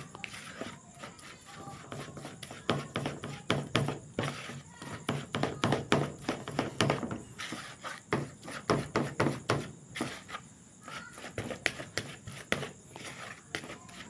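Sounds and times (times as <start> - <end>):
plastic spoon stirring paste in bowl: 0.0 - 14.0.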